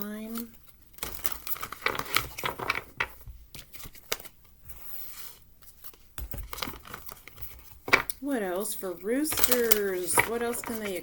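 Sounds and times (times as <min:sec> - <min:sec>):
cards being shuffled: 0:00.3 - 0:04.4, 0:05.1 - 0:08.2, 0:09.3 - 0:11.0.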